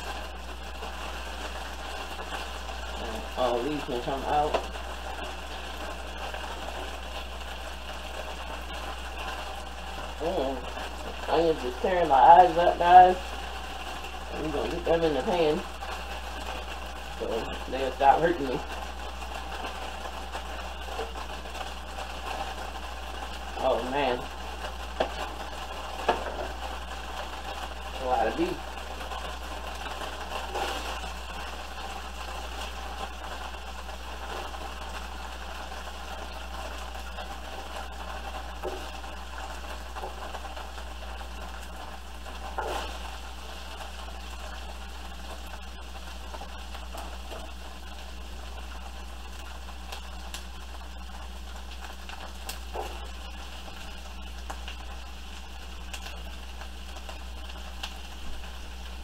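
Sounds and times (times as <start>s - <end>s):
constant low hum: 0.0s - 59.0s
vegetables sizzling in frying pan: 0.0s - 59.0s.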